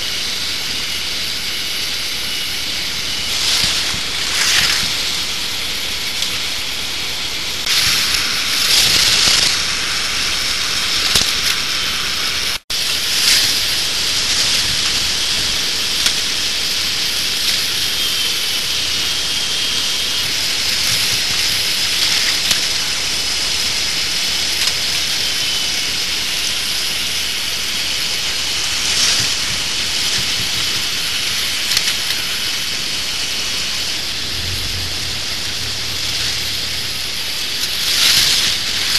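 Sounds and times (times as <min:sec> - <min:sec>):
toy roller coaster crackling hiss: 0:00.0 - 0:38.9.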